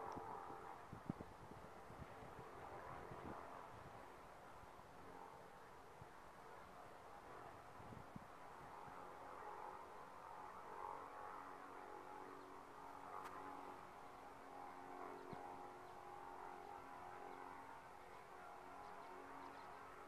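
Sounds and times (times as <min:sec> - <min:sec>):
distant light plane drone: 0:00.0 - 0:20.0.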